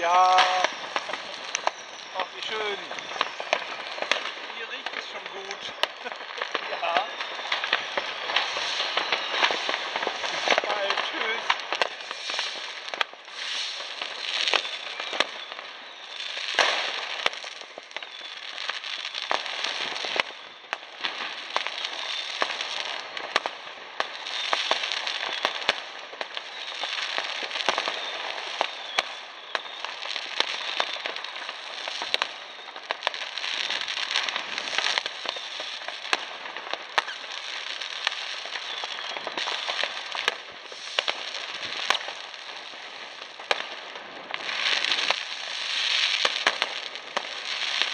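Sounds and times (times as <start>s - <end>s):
fireworks crackling: 0.0s - 47.9s
fireworks sharp bangs: 0.0s - 47.9s.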